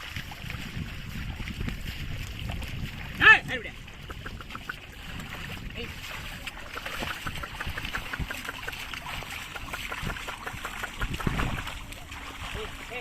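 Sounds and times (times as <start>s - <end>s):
water and mud sloshing: 0.0s - 13.0s.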